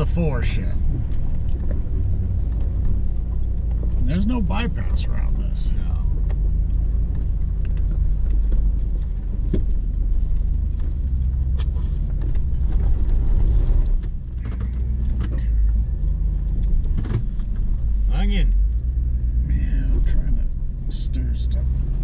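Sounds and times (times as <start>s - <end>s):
engine low rumble: 0.0s - 22.0s.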